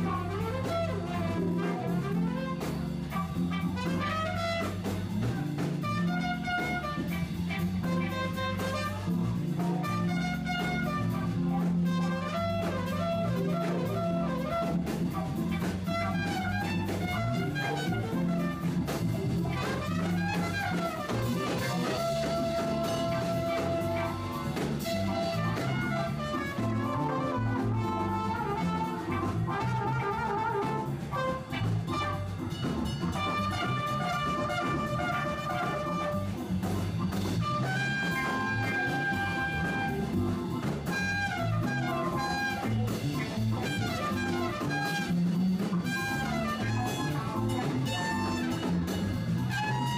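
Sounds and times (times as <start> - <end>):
jazz band with horns: 0.0 - 49.9.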